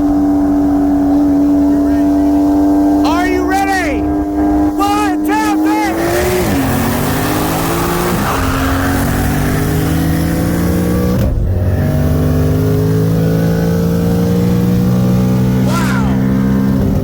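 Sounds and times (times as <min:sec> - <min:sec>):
race car engines accelerating: 0:00.0 - 0:17.0.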